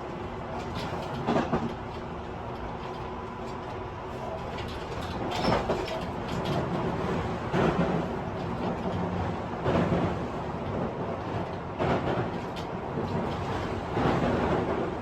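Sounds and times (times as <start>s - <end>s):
train wheels and motors rumbling: 0.0s - 15.0s.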